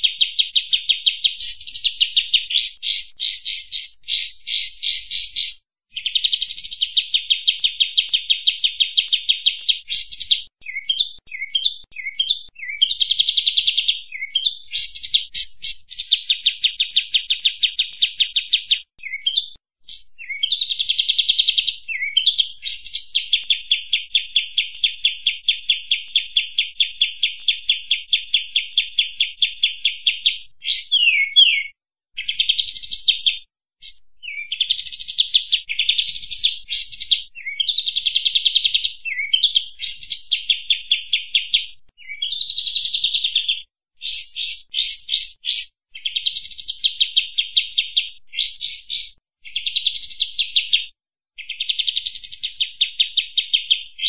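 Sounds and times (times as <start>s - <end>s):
bulbul singing fast trills: 0.0s - 50.7s.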